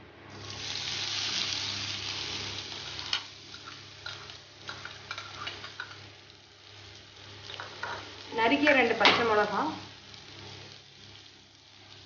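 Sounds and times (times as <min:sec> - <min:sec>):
onion sizzling in hot oil: 0:00.3 - 0:12.0.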